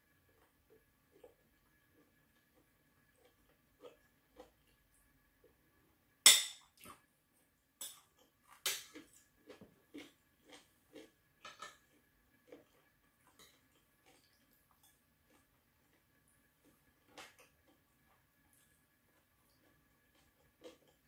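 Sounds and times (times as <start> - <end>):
chewing: 0.2 - 5.6, 8.0 - 21.0.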